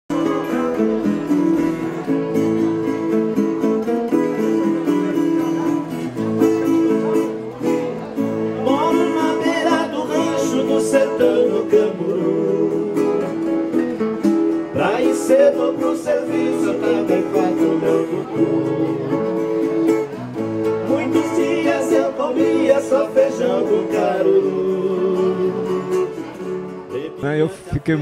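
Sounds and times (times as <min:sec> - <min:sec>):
plucked acoustic guitar country tune: 0:00.1 - 0:28.0.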